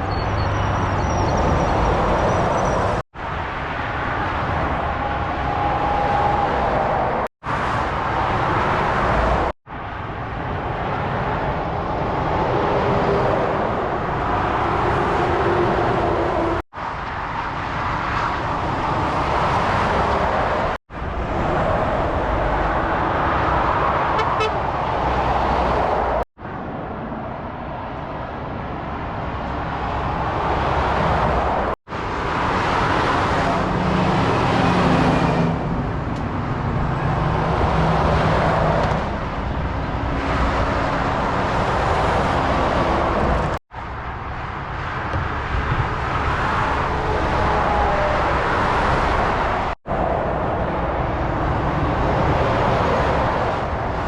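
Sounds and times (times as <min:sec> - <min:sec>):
motorway traffic passing: 0:00.0 - 0:54.0.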